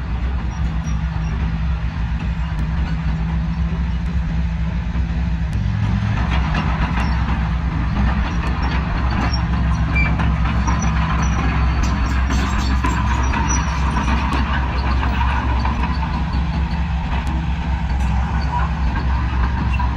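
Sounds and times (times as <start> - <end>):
diesel engine running under load: 0.0 - 19.9.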